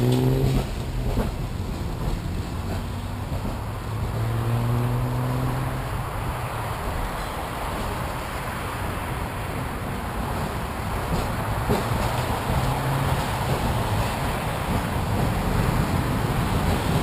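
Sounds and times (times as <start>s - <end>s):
tram rumble and wind noise: 0.0s - 17.0s.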